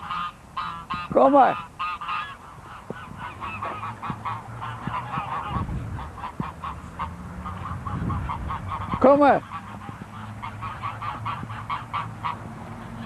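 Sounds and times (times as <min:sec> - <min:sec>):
geese and ducks honking: 0:00.0 - 0:13.0.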